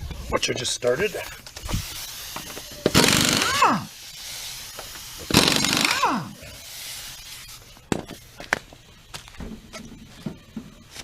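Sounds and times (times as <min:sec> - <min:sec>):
impact wrench whine: 0:01.3 - 0:11.0.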